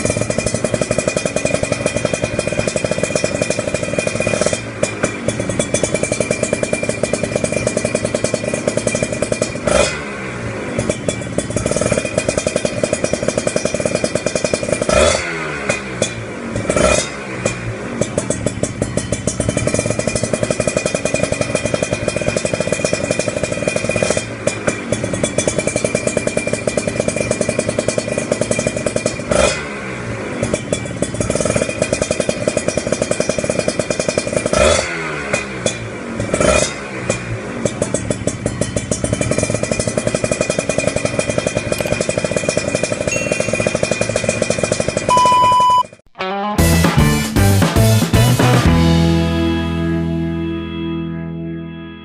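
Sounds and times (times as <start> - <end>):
two-stroke motorcycle engine revving: 0.0 - 46.0, 46.6 - 50.4.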